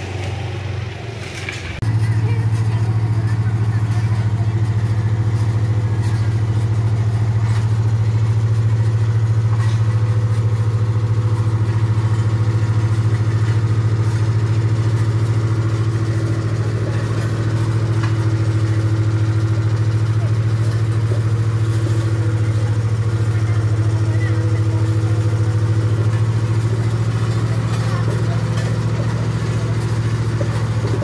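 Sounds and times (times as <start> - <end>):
road roller diesel engine running: 0.0 - 31.0.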